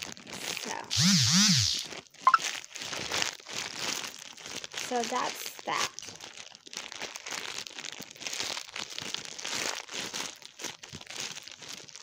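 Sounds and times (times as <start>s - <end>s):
plastic bag crinkling: 0.0s - 1.0s, 1.8s - 12.0s.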